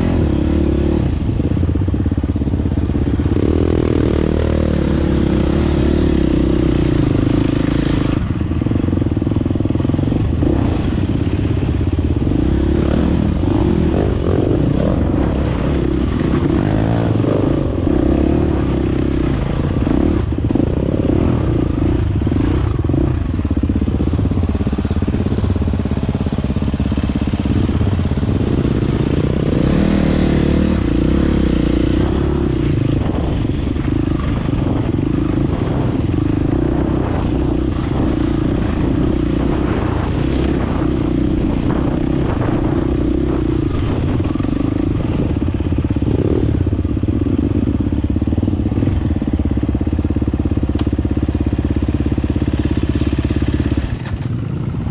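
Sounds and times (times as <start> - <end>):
dirt bike engine revving: 0.0 - 1.5, 2.4 - 47.6.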